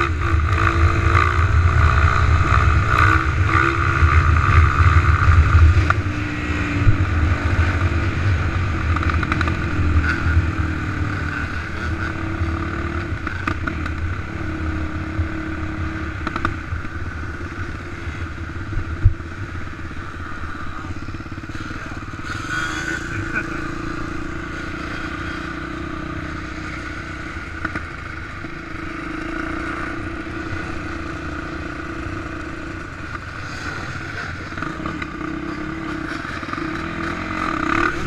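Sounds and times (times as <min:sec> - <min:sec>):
off-road vehicle engine revving: 0:00.0 - 0:16.6, 0:21.5 - 0:38.0.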